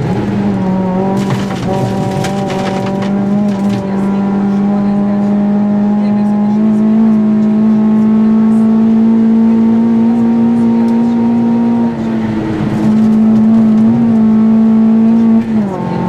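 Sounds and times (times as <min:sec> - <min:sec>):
rally car engine revving high: 0:00.0 - 0:16.0.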